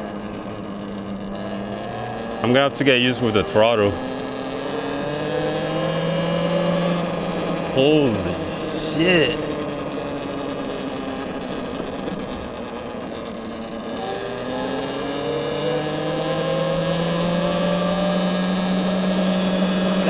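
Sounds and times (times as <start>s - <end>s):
electric dirt bike motor whining: 0.0s - 20.0s.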